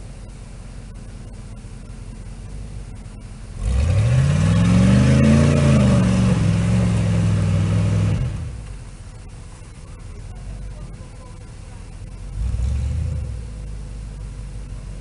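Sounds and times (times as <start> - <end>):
truck engine revving: 2.5 - 15.0.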